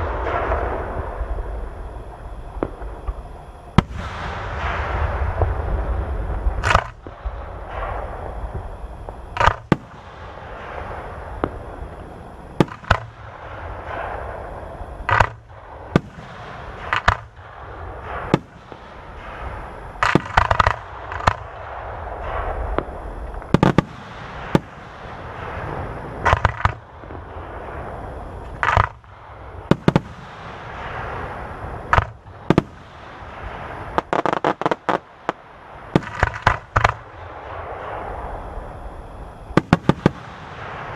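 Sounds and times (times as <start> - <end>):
fireworks booming: 0.0 - 40.9
fireworks crackle: 0.0 - 40.9
rapid fireworks pops: 0.0 - 40.9.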